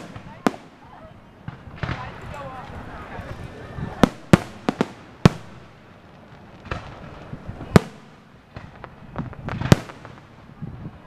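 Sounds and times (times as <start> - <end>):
firework bangs: 0.0 - 11.0
light firework pops: 0.0 - 11.0.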